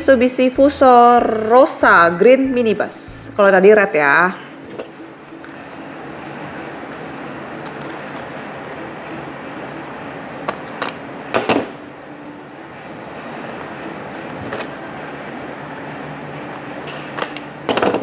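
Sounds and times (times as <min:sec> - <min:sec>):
steady background hiss: 0:03.0 - 0:18.0.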